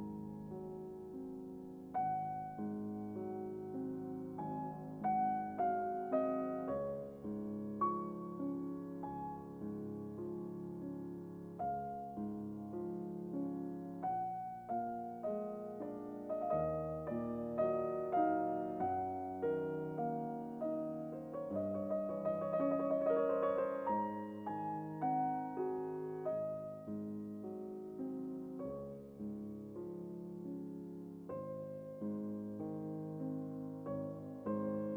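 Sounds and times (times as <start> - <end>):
slow gentle piano melody: 0.0 - 34.9.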